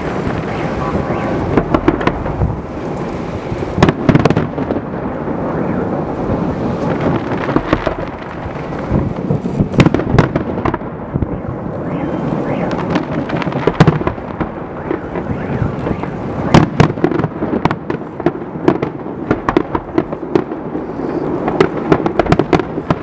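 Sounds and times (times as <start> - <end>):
fireworks bursting with bangs: 0.0 - 23.0
rumble of fireworks: 0.0 - 23.0.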